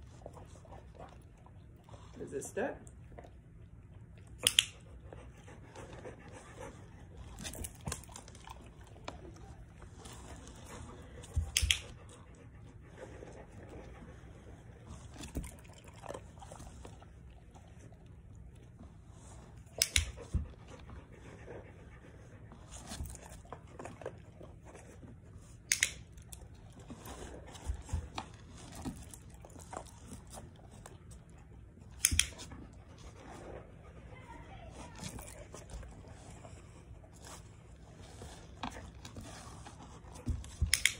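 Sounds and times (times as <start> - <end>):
dog panting: 0.0 - 40.9.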